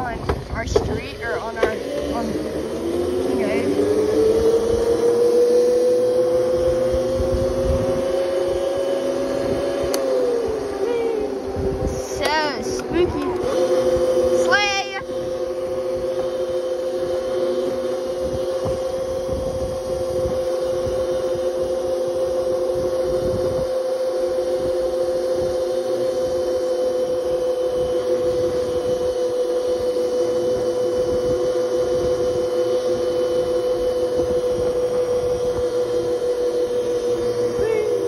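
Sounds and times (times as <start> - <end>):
electric dirt bike motor whine: 0.0 - 38.0
wind rumble on microphone: 0.0 - 38.0.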